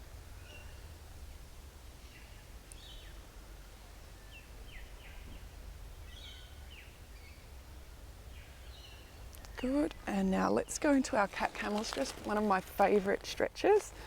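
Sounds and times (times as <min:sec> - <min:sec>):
low steady rumble: 0:00.0 - 0:14.0
faint birds chirping: 0:00.1 - 0:13.0.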